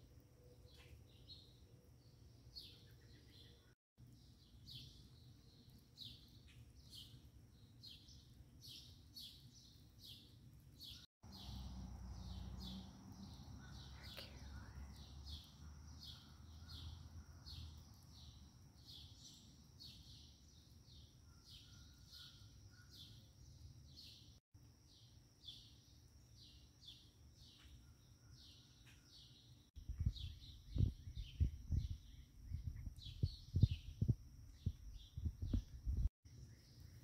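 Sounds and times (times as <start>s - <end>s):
bird chirping: 0.0s - 37.0s.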